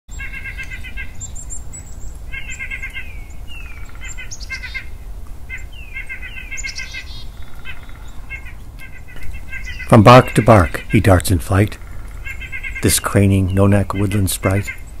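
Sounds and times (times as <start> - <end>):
nuthatch calling: 0.1 - 15.0.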